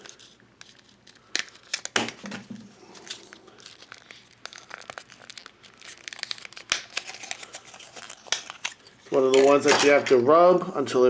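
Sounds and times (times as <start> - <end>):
plastic packaging crinkling and tearing: 0.0 - 10.2.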